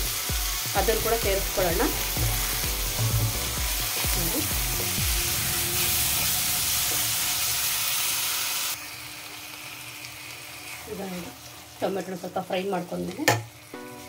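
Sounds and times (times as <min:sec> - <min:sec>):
masala sizzling in a pan: 0:00.0 - 0:14.0.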